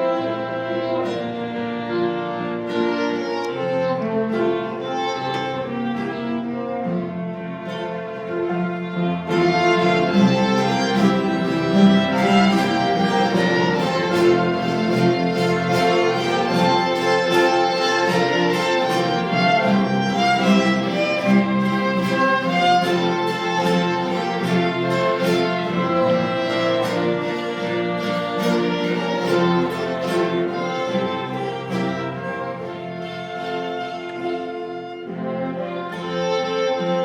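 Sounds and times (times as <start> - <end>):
orchestral strings melody: 0.0 - 37.0.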